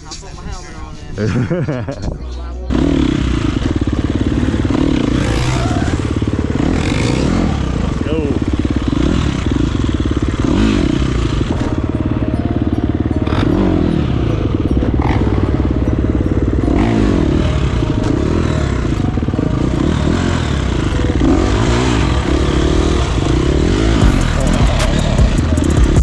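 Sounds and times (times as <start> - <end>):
dirt bike motor revving: 2.7 - 26.0.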